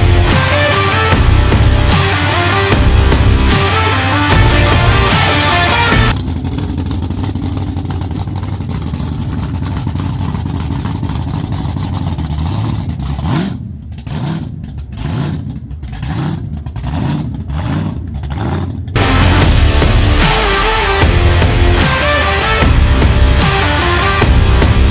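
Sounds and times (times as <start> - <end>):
car engine rumbling and revving: 0.0 - 24.9.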